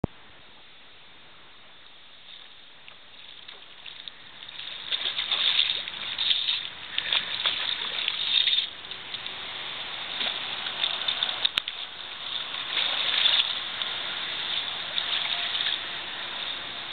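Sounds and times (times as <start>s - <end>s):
water splashing and sloshing: 1.8s - 16.9s.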